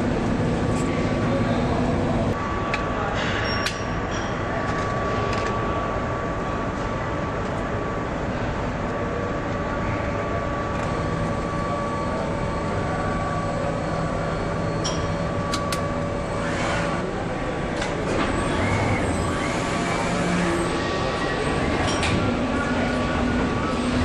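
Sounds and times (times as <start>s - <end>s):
factory machinery humming: 0.0s - 24.0s.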